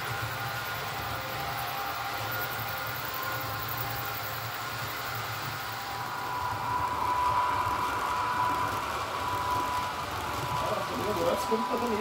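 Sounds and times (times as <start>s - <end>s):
high motor whine: 0.0s - 12.0s
model train wheels rolling: 0.0s - 12.0s.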